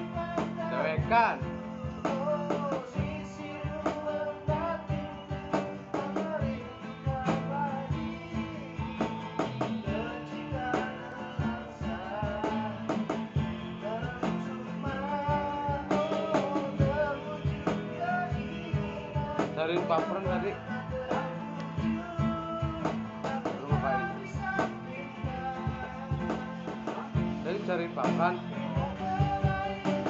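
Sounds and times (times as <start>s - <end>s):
acoustic guitar strumming: 0.0s - 30.0s
cajon beat: 0.0s - 30.0s
person singing: 0.0s - 30.0s.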